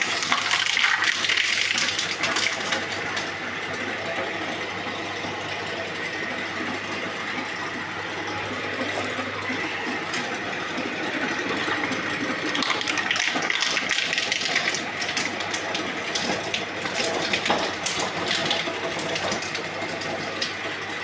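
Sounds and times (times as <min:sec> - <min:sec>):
shredding machine humming: 0:00.0 - 0:21.0.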